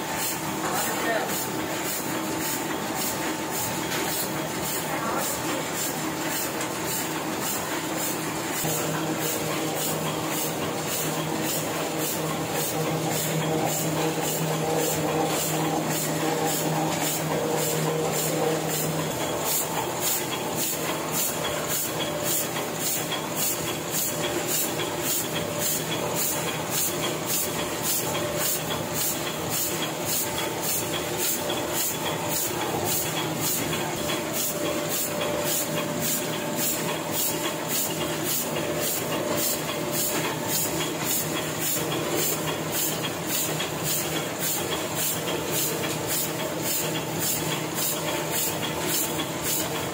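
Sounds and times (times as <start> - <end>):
printing press clacking: 0.0 - 49.9.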